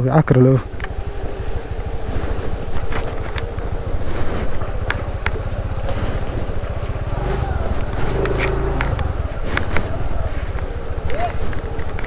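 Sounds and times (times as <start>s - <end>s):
scooter engine running: 0.3s - 12.0s.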